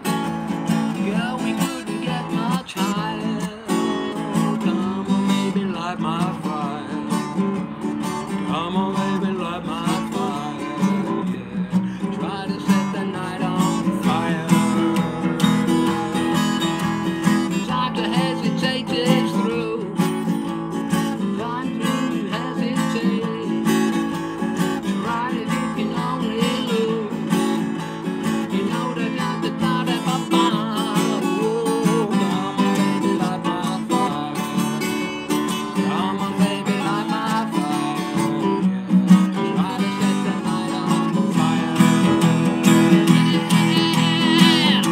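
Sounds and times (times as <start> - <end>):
acoustic guitar strumming: 0.0 - 44.9
man singing: 0.0 - 44.9.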